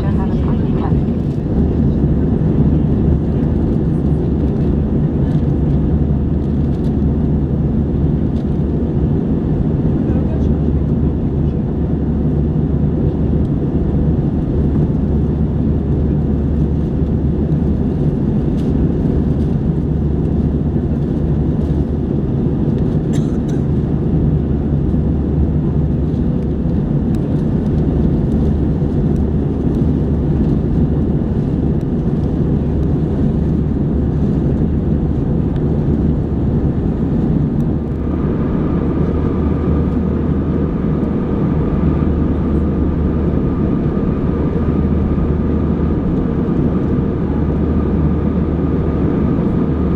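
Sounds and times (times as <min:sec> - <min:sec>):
airplane cabin engine rumble: 0:00.0 - 0:49.9.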